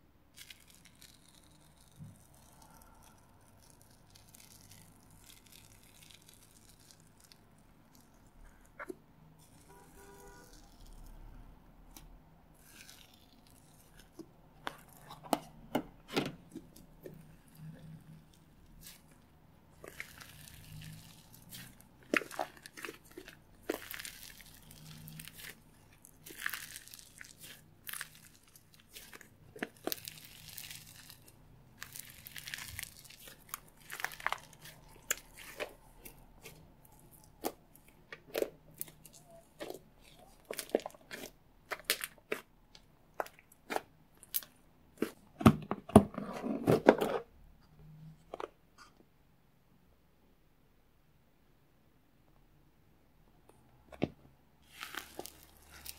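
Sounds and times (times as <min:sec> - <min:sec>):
slime crackling and popping: 0:00.3 - 0:11.3, 0:11.9 - 0:15.6, 0:16.4 - 0:45.3, 0:54.6 - 0:55.9.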